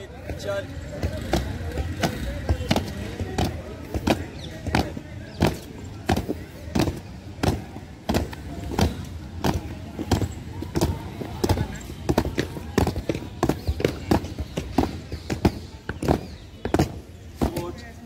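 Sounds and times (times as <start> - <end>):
marching boots on concrete: 0.0 - 18.0.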